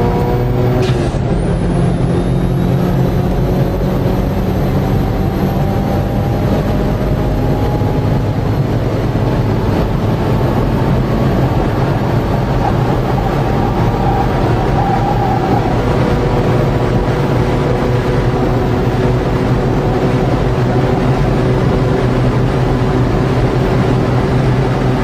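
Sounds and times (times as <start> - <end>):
road and wind noise: 0.0 - 25.0
vehicle engine running: 0.0 - 25.0.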